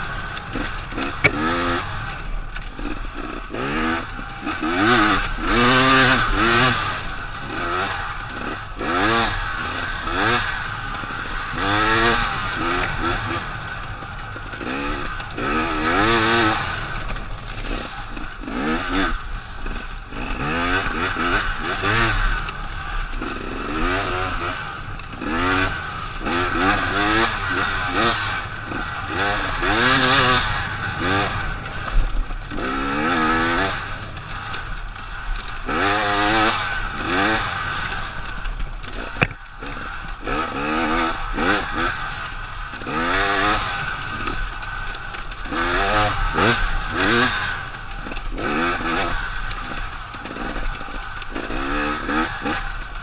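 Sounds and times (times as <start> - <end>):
two-stroke motorbike engine revving: 0.0 - 53.0.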